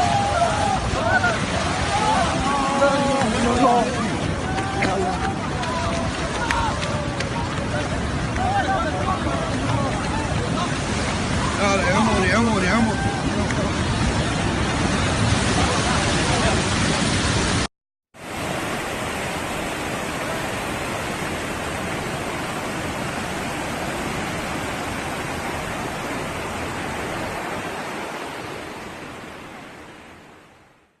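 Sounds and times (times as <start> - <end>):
floodwater roaring: 0.0 - 31.0.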